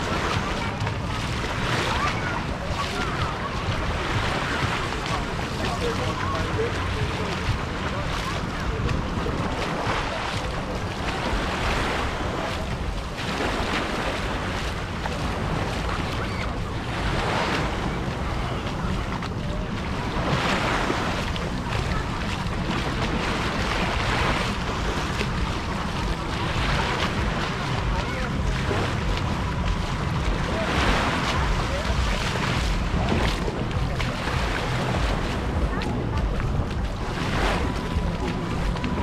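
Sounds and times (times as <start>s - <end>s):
sea waves washing onto shore: 0.0s - 39.0s
wind rumbling on microphone: 0.0s - 39.0s.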